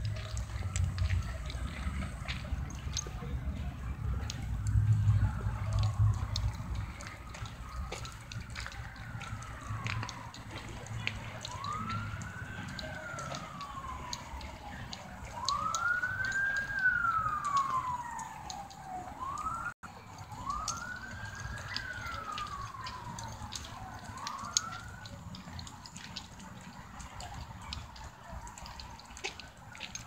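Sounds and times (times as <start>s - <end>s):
wailing siren: 0.0s - 30.0s.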